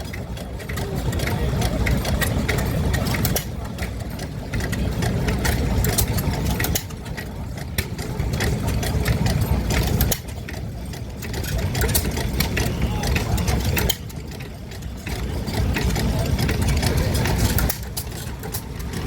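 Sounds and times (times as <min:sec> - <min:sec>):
stationary engines running: 0:00.0 - 0:19.0.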